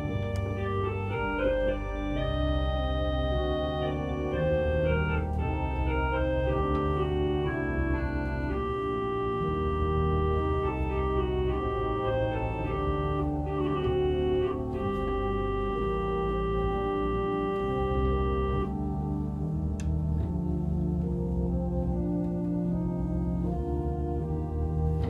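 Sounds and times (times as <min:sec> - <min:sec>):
church organ playing chords: 0:00.0 - 0:25.0.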